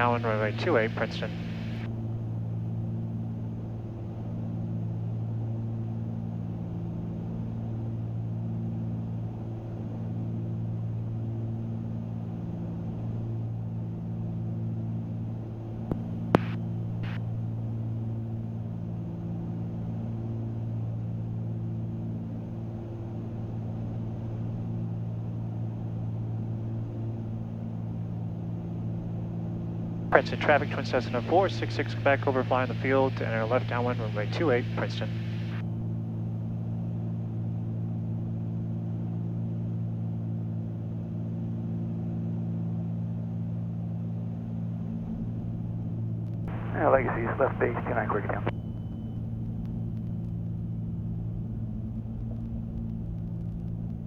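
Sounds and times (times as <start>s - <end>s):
aircraft propeller engines droning: 0.0s - 54.0s.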